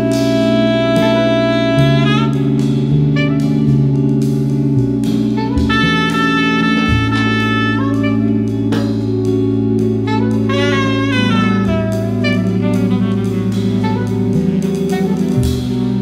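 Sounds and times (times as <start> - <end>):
bass line: 0.0 - 16.0
drums: 0.0 - 16.0
saxophones holding long notes: 0.0 - 16.0.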